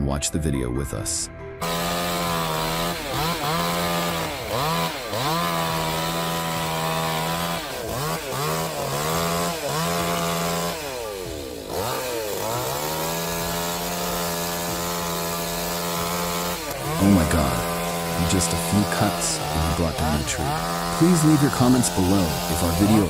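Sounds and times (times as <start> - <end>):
chainsaw revving: 1.6 - 23.0.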